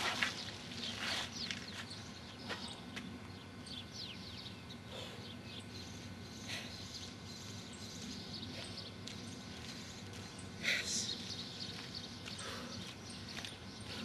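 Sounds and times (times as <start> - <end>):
birds chirping: 0.0 - 14.0
low outdoor hum: 0.0 - 14.0.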